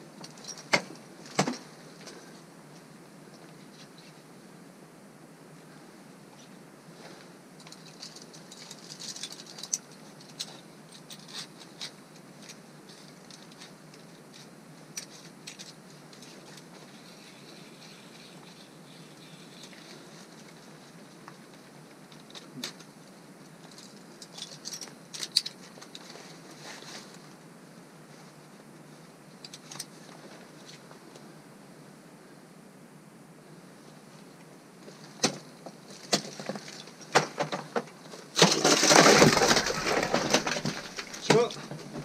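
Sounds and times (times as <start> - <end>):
faint steady hiss: 0.0 - 42.0.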